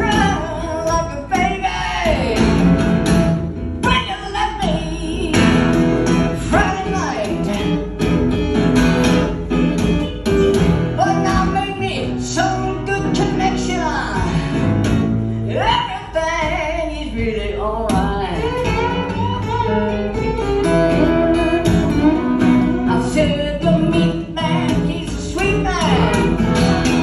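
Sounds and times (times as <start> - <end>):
acoustic guitar: 0.0 - 27.0
slide guitar: 0.0 - 27.0.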